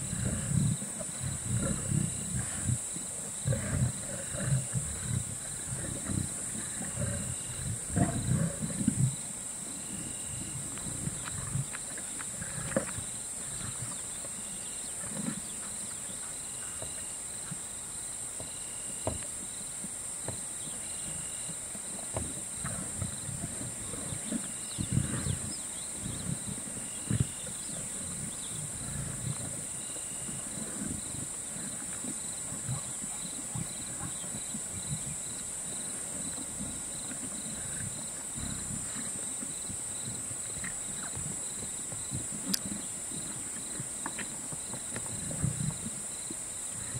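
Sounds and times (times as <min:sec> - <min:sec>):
faint pulsing chirp: 0:00.0 - 0:46.9
high insect drone: 0:00.0 - 0:46.9.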